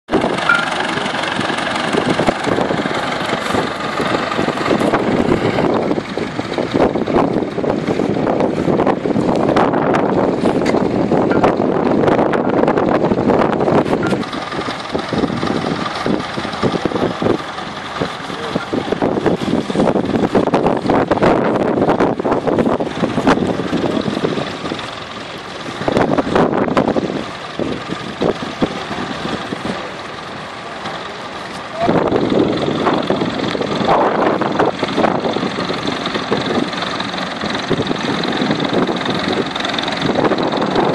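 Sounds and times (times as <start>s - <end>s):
tractor engine running: 0.0s - 40.9s
wind gusting on microphone: 0.1s - 40.9s.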